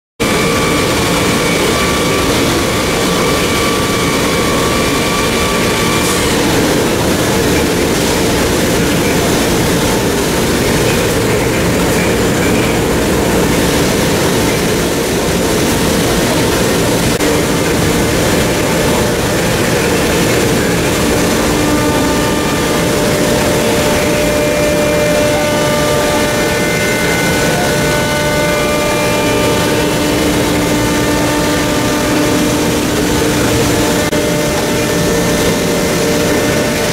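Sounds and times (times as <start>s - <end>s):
faint machine whines: 0.2s - 36.9s
machinery and fans running: 0.2s - 36.9s.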